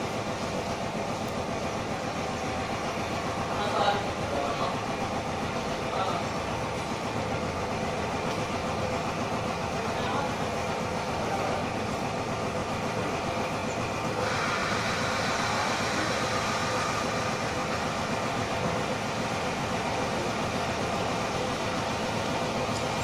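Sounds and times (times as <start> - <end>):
mechanical running noise: 0.0 - 23.0.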